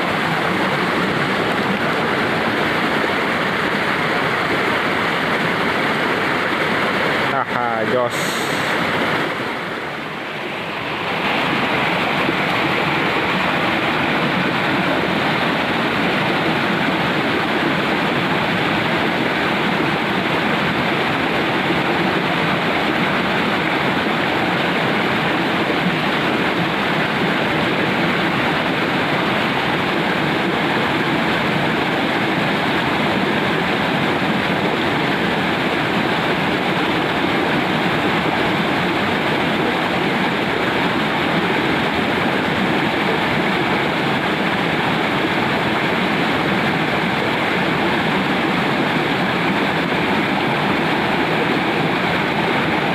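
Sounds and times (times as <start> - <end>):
water rushing in a ditch: 0.0 - 52.9.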